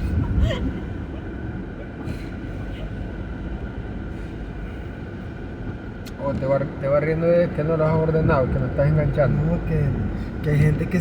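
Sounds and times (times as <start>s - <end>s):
faint constant whine: 0.0s - 11.0s
moving vehicle rumble: 0.0s - 11.0s.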